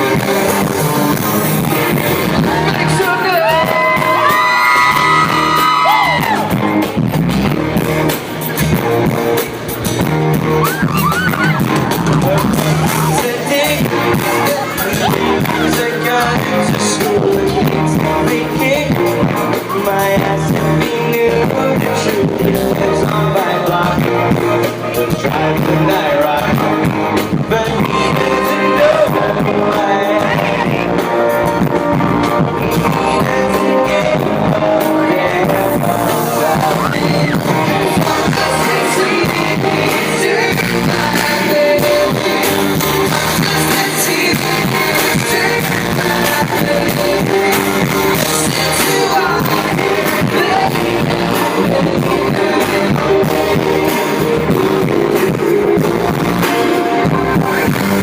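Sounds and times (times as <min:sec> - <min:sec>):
electric guitar: 0:00.0 - 0:58.0
live pop-rock band: 0:00.0 - 0:58.0
person singing: 0:10.4 - 0:58.0.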